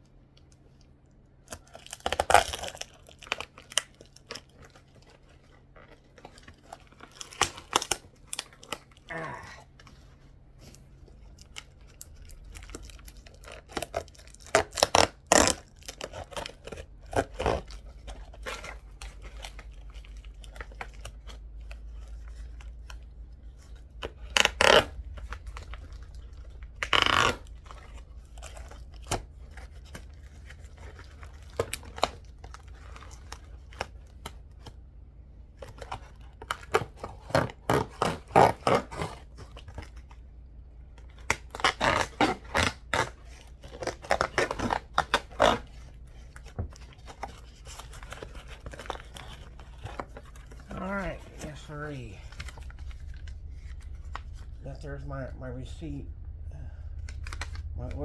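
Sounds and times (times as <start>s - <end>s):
packaging tearing and rustling: 1.5s - 55.1s, 56.2s - 58.0s.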